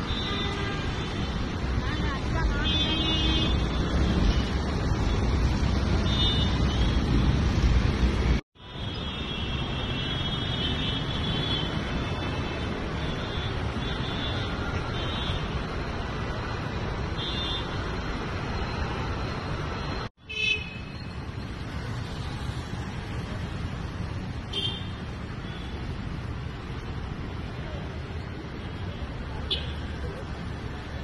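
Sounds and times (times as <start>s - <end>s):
street traffic: 0.0s - 31.0s.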